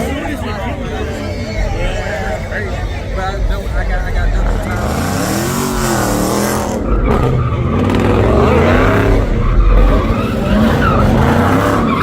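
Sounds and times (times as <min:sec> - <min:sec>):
car engines revving hard: 0:00.0 - 0:12.0
tyres squealing and skidding: 0:00.0 - 0:12.0.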